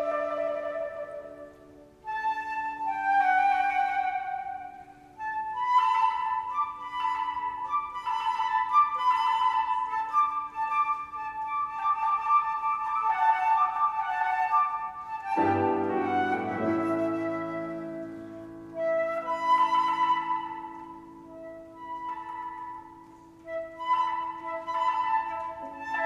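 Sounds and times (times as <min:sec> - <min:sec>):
flute playing melody: 0:00.0 - 0:26.0
piano accompaniment: 0:00.0 - 0:26.0.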